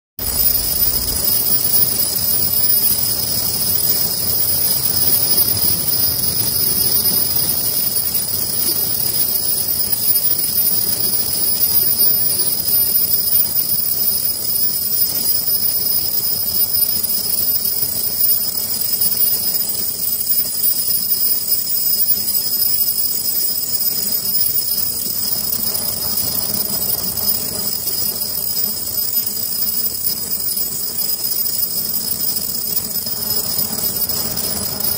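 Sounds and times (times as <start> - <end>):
high machine whine: 0.2 - 34.9.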